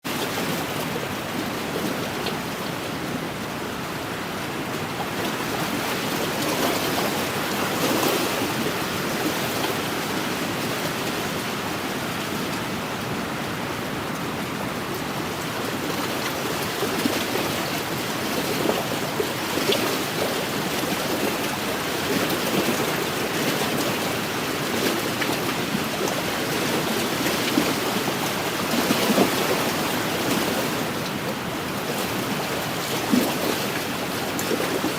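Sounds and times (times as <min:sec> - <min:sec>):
small waves lapping on shore: 0:00.1 - 0:34.9.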